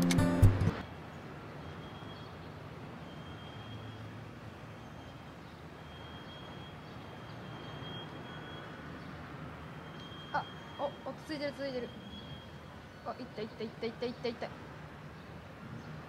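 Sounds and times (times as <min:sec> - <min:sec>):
distant traffic rumble: 0:00.7 - 0:16.0.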